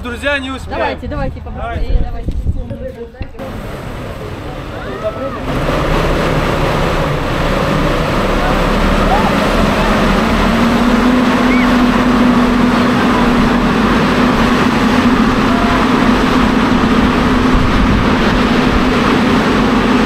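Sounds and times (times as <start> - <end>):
engine droning: 3.4 - 20.0.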